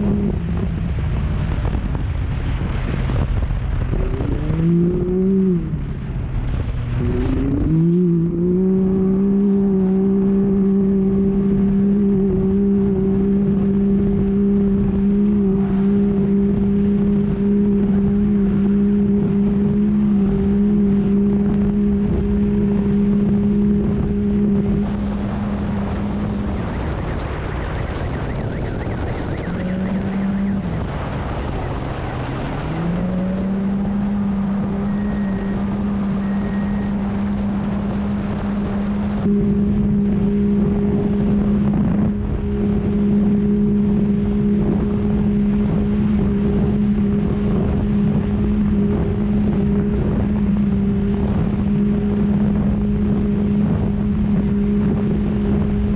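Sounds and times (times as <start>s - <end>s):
race vehicle engine at high revs: 0.0s - 55.9s
wind-buffeted rumble: 0.0s - 55.9s.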